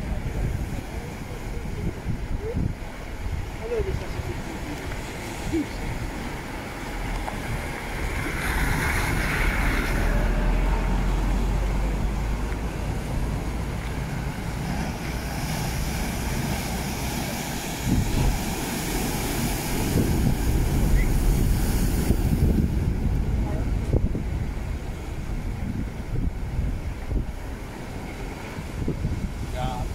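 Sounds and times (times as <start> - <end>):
sea waves crashing over rocks: 0.0 - 29.9
wind rumbling on microphone: 0.0 - 29.9.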